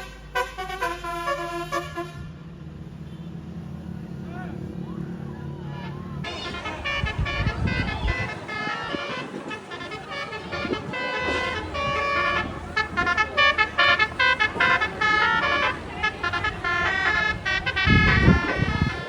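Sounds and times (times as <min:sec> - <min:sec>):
multi-tone musical air horn: 0:00.0 - 0:03.4, 0:05.8 - 0:19.0.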